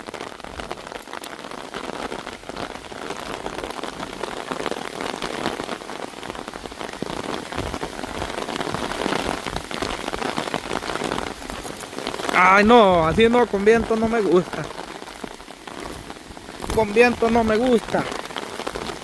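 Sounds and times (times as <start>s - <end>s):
heavy rain on an umbrella: 0.0s - 19.0s.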